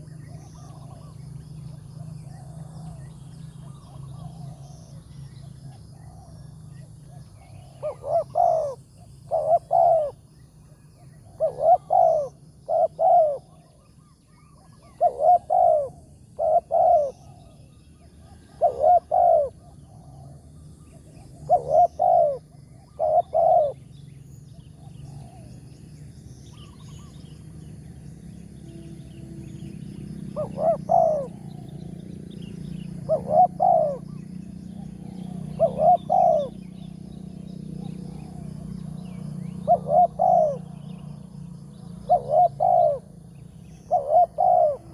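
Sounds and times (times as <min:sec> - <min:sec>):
dove cooing: 0:00.0 - 0:25.8, 0:26.5 - 0:44.9.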